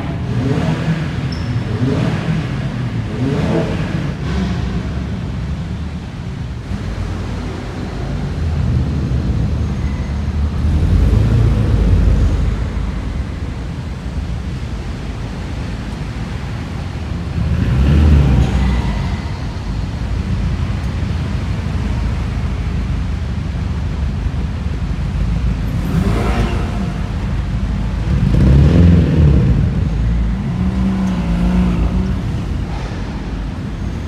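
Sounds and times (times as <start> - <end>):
car engines revving: 0.0 - 34.0
cars driving past on wet road: 0.0 - 34.0.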